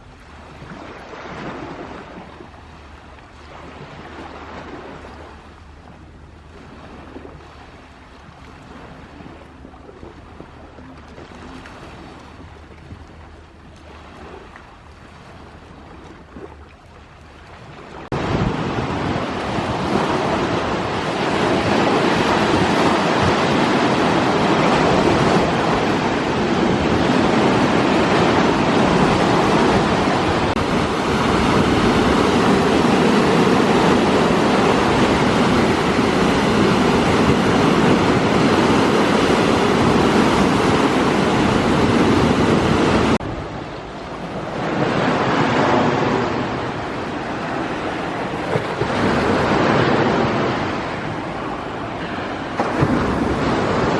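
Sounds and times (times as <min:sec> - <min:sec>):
sea waves breaking: 0:00.0 - 0:53.9.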